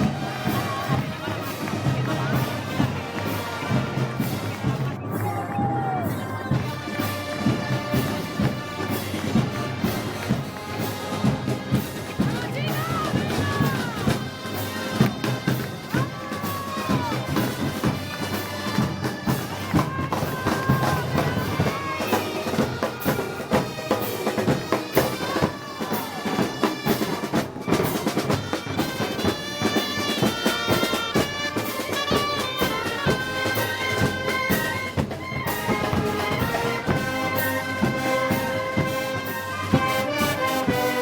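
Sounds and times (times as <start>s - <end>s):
drum strokes: 0.0s - 41.0s
reed and brass band melody: 0.0s - 41.0s.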